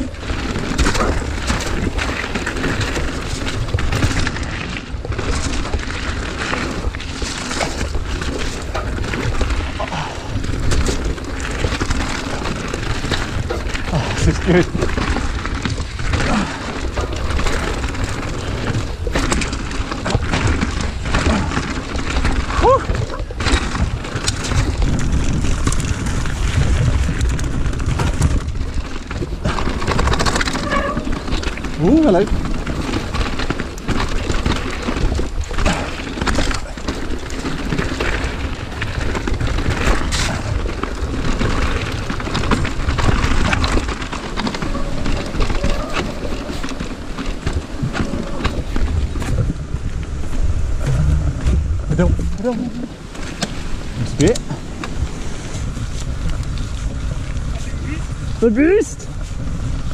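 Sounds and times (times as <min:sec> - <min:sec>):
bike rattling over bumps: 0:00.0 - 0:59.9
bike tyres rolling over gravel: 0:00.0 - 0:59.9
wind rumble on microphone: 0:00.0 - 0:59.9.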